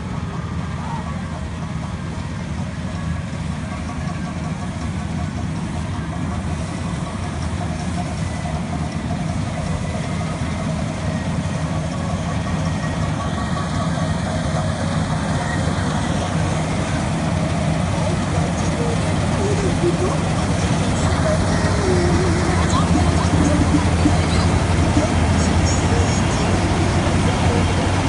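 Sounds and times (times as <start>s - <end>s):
combine harvester engine running: 0.0s - 28.0s.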